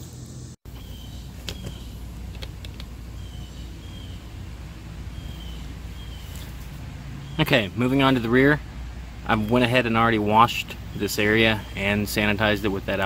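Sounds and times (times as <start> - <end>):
low steady rumble: 0.0 - 13.0
bird chirping: 0.7 - 13.0.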